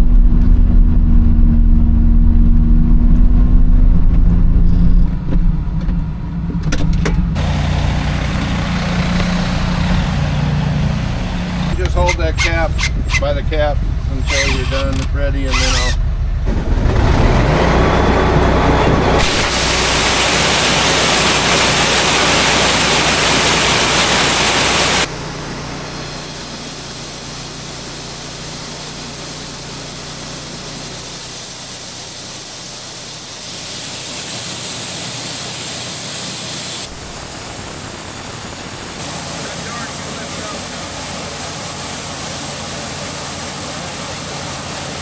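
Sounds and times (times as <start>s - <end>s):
low engine hum: 0.0s - 34.2s, 36.4s - 45.0s
grain vacuum rushing air: 7.3s - 45.0s.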